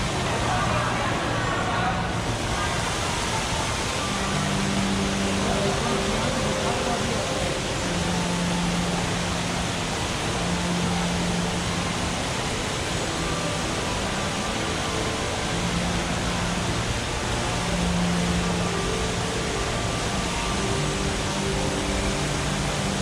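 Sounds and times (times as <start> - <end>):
water streams falling: 0.0 - 23.0.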